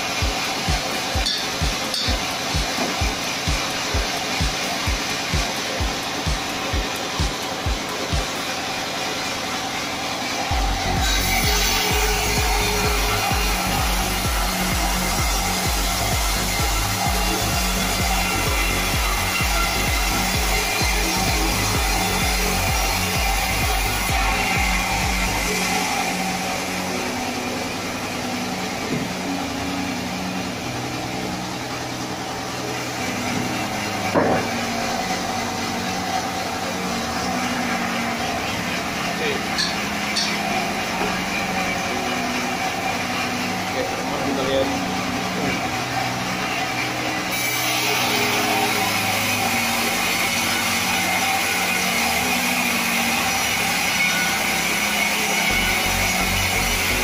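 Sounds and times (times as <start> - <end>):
band saw cutting log: 0.0 - 57.0
sawmill machinery humming: 0.0 - 57.0.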